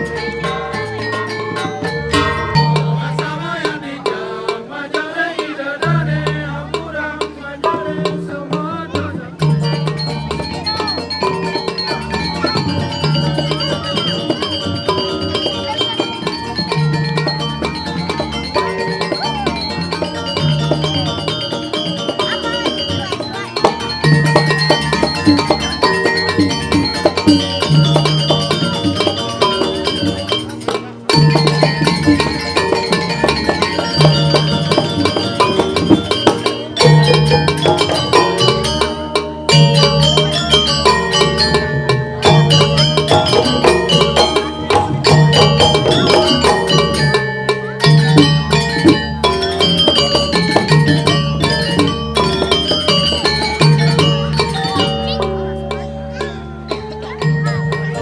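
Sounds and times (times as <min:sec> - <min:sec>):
gamelan music: 0:00.0 - 0:58.0.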